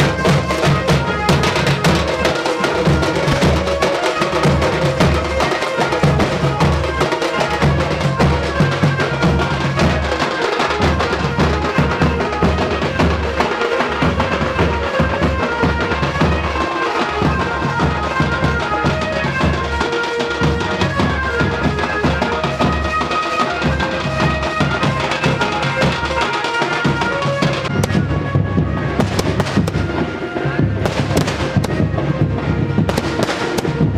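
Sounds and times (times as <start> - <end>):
heavy drumming: 0.0 - 33.9.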